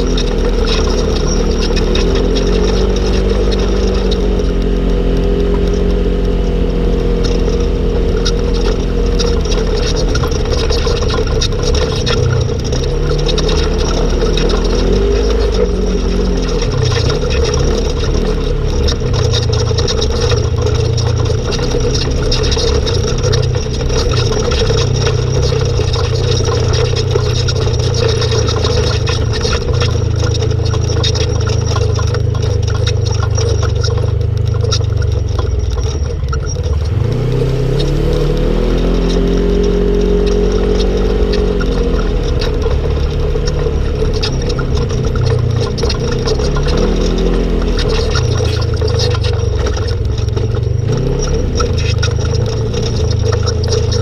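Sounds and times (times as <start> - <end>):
off-road vehicle engine revving: 0.0 - 54.0
vehicle rattles and knocks: 0.0 - 54.0.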